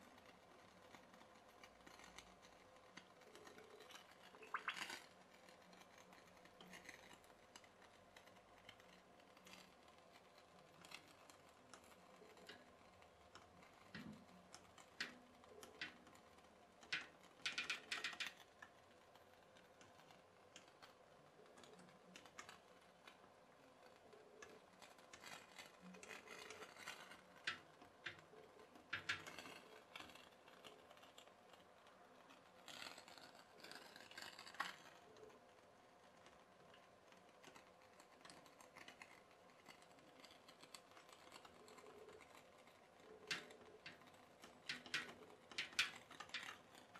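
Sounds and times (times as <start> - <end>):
toy boat boiler clicking: 0.0 - 46.9.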